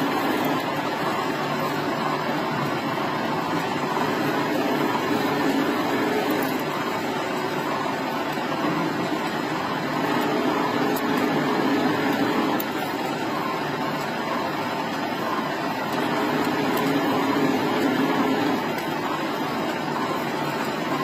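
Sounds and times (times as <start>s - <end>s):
metal lathe cutting steel: 0.0s - 21.0s.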